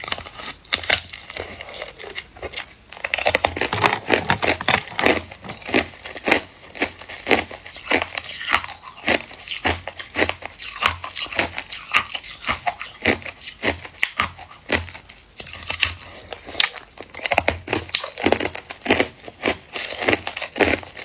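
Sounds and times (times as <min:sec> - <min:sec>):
ice crunching between teeth: 0:00.0 - 0:21.0.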